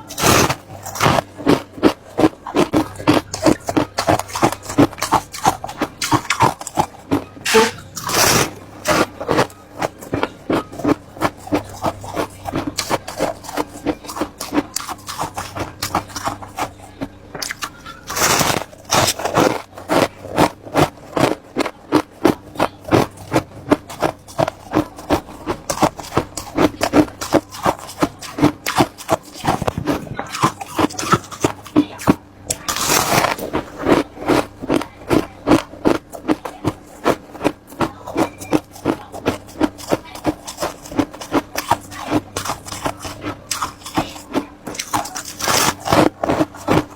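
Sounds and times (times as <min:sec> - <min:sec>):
chewing ice crunches: 0:00.0 - 0:46.9.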